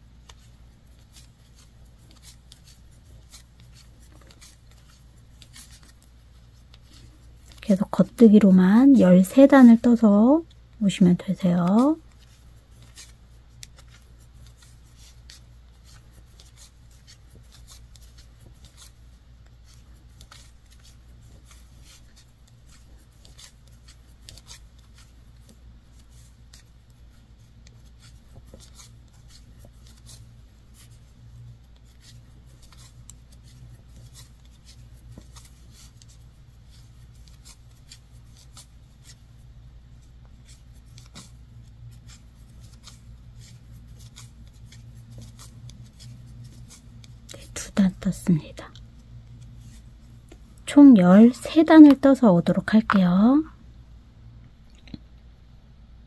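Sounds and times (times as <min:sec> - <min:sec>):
soft yarn rubbing: 0:00.0 - 0:53.6.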